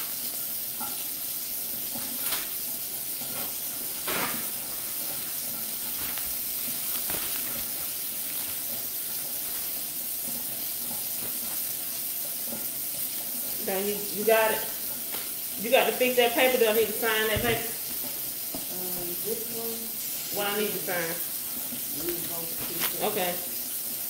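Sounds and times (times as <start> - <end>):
food sizzling in a frying pan: 0.0 - 24.0
paper towel wiping countertop: 1.8 - 12.2, 13.4 - 23.7.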